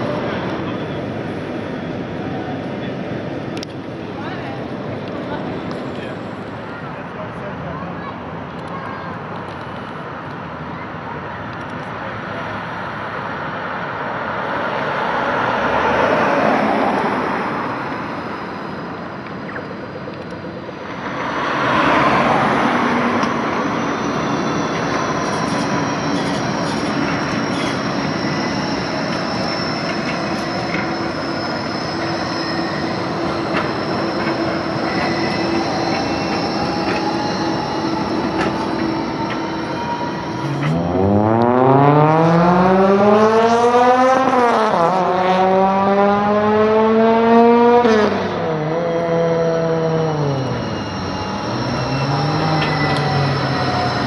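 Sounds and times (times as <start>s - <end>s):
tram electric drive whine: 0.0s - 54.0s
road traffic passing: 6.8s - 54.0s.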